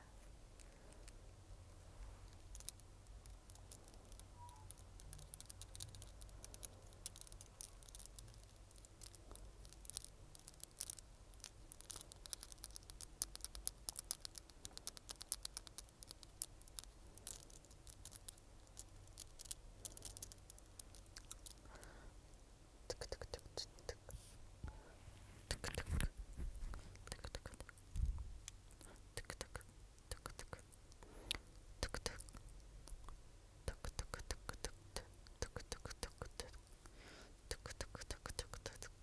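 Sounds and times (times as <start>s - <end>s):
crisp clicks and crackles: 0.5s - 21.9s, 25.5s - 39.0s.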